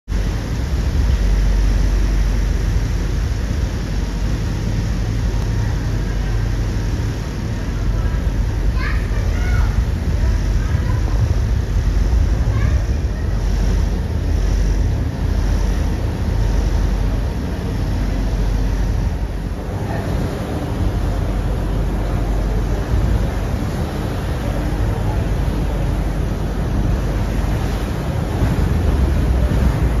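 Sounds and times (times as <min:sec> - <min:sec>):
ferry engines rumbling: 0:00.1 - 0:30.0
wind and water rushing: 0:00.1 - 0:30.0.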